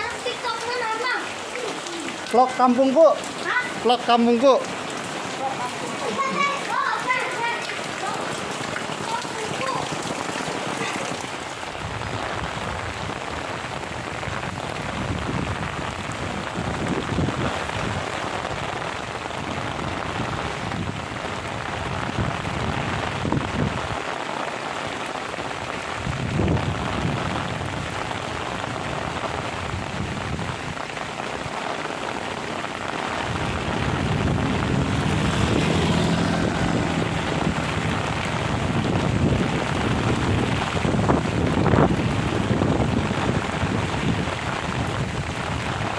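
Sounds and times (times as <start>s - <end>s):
heavy rain pouring: 0.0s - 45.9s
wind gusts on microphone: 8.0s - 45.9s.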